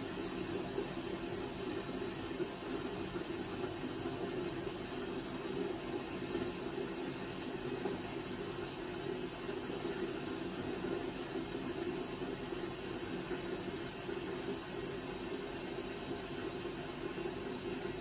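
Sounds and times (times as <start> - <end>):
washing machine hissing: 0.0 - 18.0.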